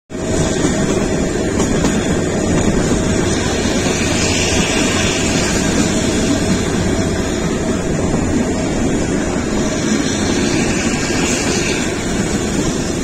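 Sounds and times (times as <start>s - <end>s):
train rumbling: 0.1s - 13.0s.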